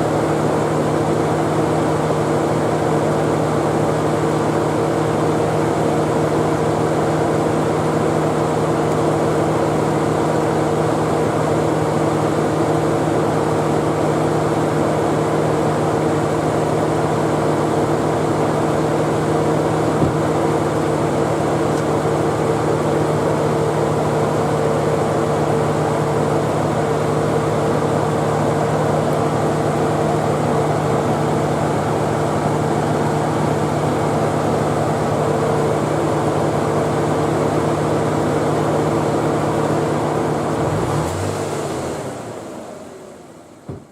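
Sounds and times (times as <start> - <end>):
air conditioning hum with whine: 0.0 - 43.9.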